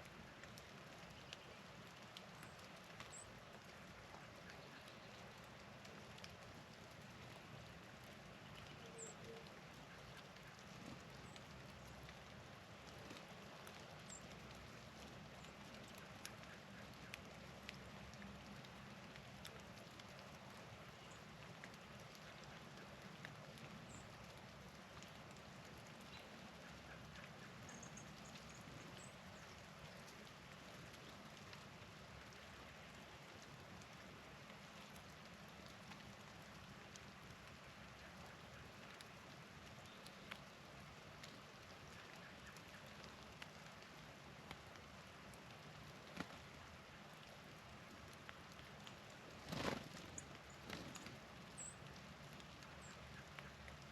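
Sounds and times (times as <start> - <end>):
patter of falling snow: 0.0 - 53.9.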